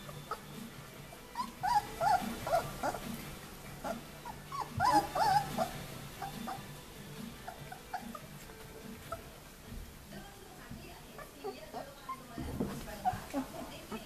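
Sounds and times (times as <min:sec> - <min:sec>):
puppies whimpering and squealing: 0:00.0 - 0:09.6, 0:11.0 - 0:14.0.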